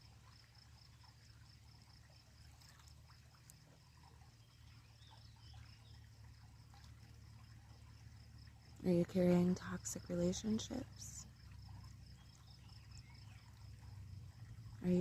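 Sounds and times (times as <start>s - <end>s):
crickets chirping: 0.0s - 15.0s
low steady hum: 0.0s - 15.0s.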